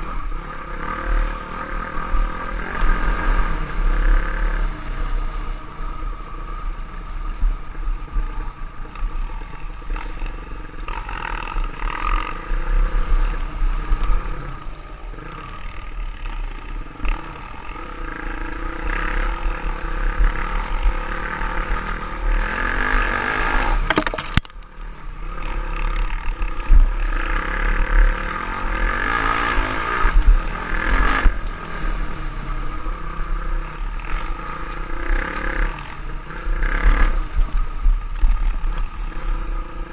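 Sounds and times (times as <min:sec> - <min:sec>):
trail motorcycle engine: 0:00.0 - 0:39.9.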